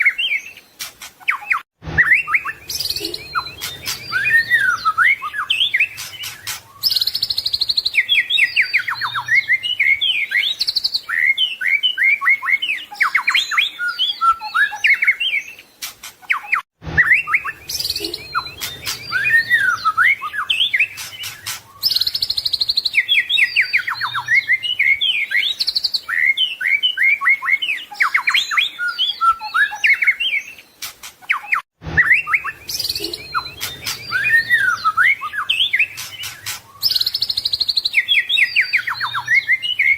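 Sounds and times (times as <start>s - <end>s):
songbird singing whistles and rattles: 0.0s - 39.9s.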